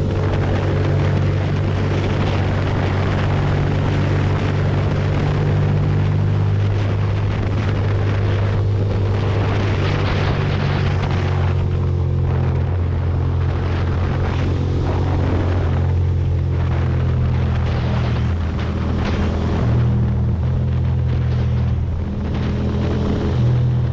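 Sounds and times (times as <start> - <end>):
motorcycle engine cruising: 0.0 - 23.9
wind noise on microphone: 0.0 - 23.9.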